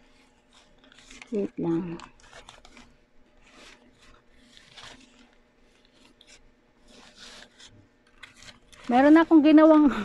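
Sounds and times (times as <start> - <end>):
paper rustling and scraping: 0.0 - 10.0.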